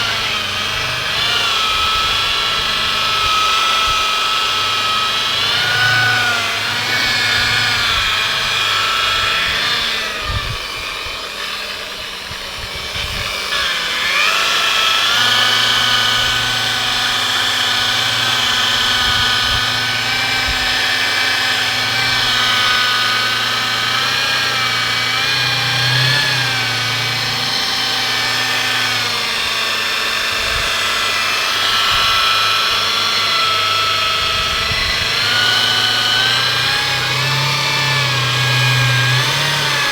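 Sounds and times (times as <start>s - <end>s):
electric polisher whining: 0.0s - 39.9s.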